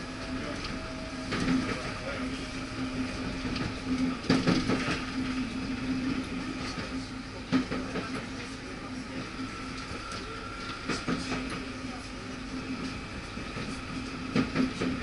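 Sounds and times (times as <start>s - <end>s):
rolling rail noise: 0.0s - 15.0s
train hum: 0.0s - 15.0s.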